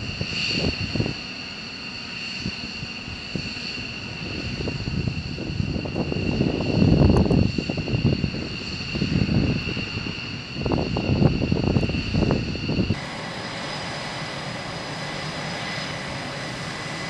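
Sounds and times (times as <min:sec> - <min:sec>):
jet engines whining and rumbling: 0:00.0 - 0:17.0.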